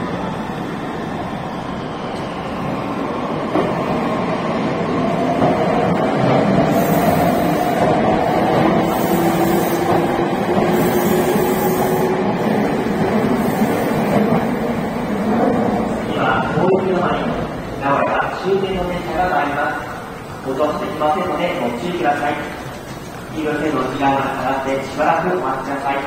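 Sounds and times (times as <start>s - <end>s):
train wheels on rails: 0.0s - 17.8s, 19.8s - 26.0s.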